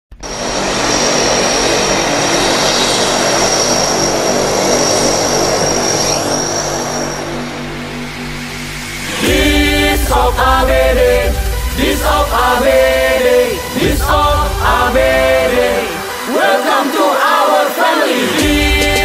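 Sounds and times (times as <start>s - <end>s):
aircraft engine rushing: 0.1s - 17.3s
high turbine whine: 0.1s - 19.0s.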